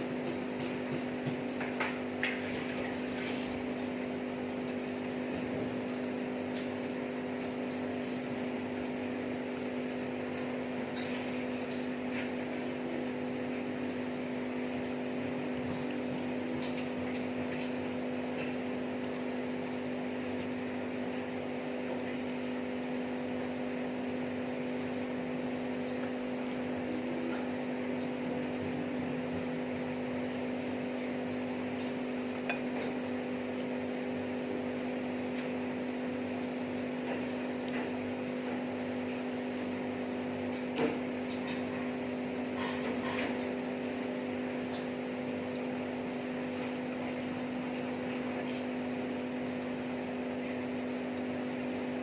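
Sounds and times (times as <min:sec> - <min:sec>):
steady machine hum: 0:00.0 - 0:42.8.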